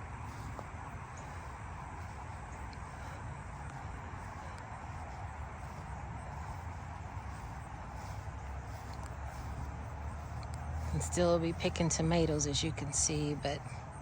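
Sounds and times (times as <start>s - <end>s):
low unsteady rumble: 0.0s - 14.0s.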